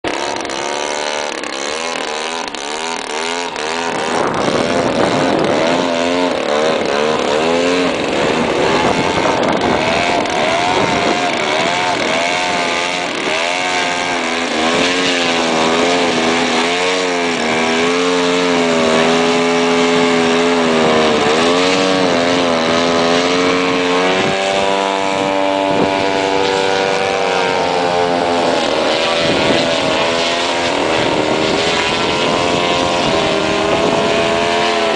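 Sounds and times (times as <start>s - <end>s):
model airplane engines: 0.0s - 34.9s.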